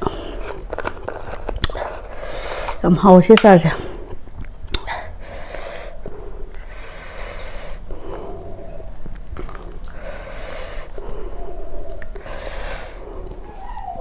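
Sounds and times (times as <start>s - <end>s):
person breathing hard through mouth: 0.0s - 2.8s, 3.7s - 14.0s.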